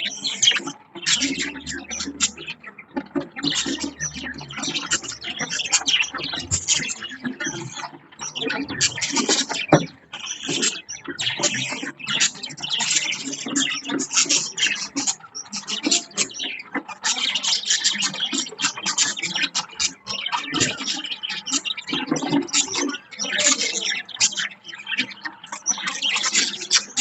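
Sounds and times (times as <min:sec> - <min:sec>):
budgerigars chirping and warbling: 0:00.0 - 0:27.0.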